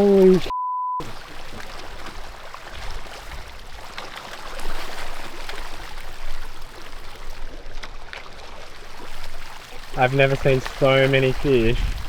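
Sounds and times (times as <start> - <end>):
fish splashing in pond water: 0.0 - 12.0.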